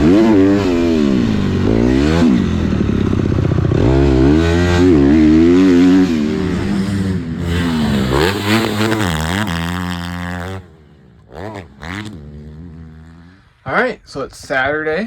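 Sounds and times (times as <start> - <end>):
dirt bike engine revving: 0.0 - 13.6.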